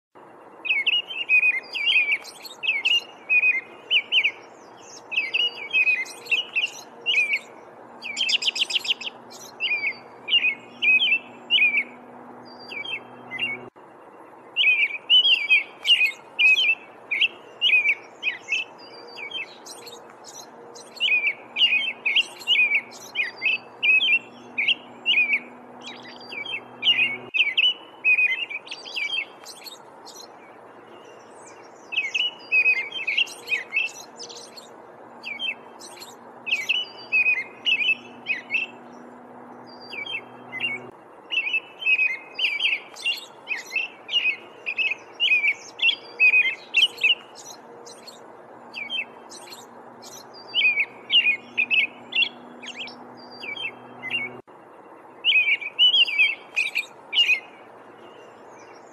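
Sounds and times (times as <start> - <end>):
robin singing: 0.2 - 58.9.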